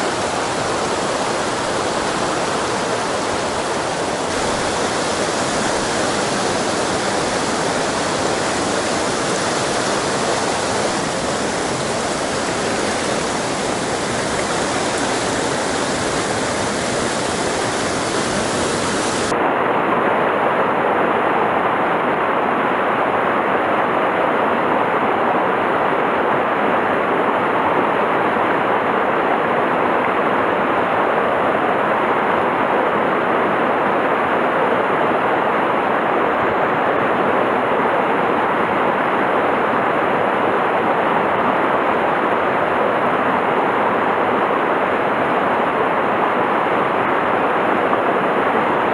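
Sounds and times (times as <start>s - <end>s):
stream rushing over boulders: 0.0s - 48.9s.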